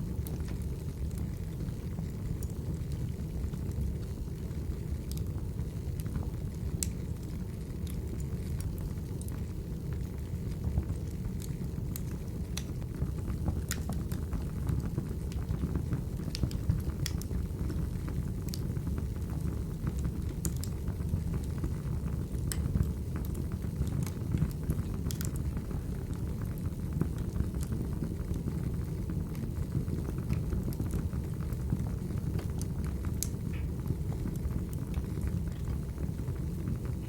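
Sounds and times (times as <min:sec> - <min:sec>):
logs crackling and popping: 0:00.0 - 0:37.0
wood fire burning: 0:00.0 - 0:37.0.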